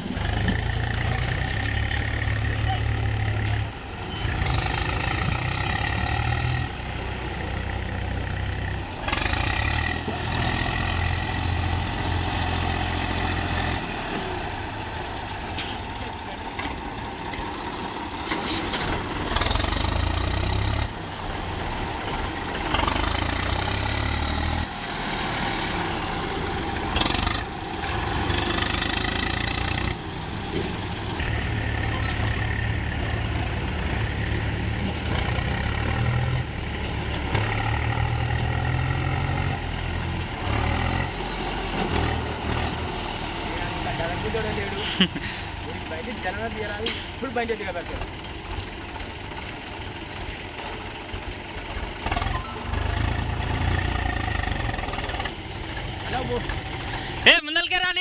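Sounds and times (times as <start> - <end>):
tractor diesel engine labouring: 0.0 - 58.0.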